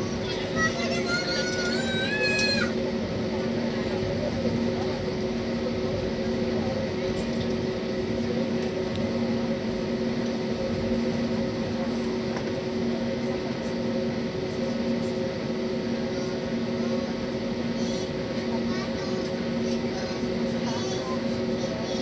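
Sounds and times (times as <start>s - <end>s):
engine and ventilation hum: 0.0s - 22.0s.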